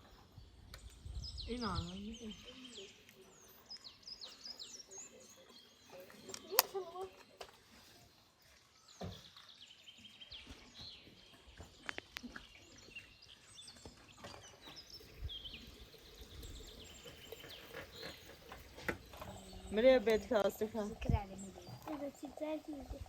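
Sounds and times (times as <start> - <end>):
faint outdoor background noise: 0.0 - 23.0
small birds chirping: 0.0 - 23.0.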